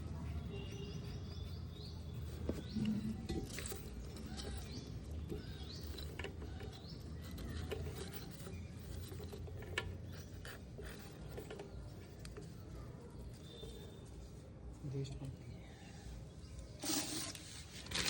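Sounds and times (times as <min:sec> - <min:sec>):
small birds chirping faintly: 0:00.0 - 0:18.0.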